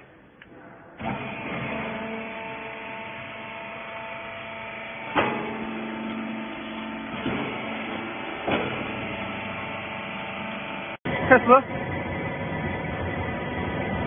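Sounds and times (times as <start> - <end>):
baler mechanical hum: 0.0 - 14.0.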